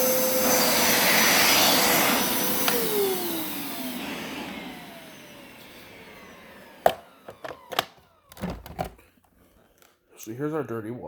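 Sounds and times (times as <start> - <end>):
carpet cleaner motor winding down: 0.0 - 9.0.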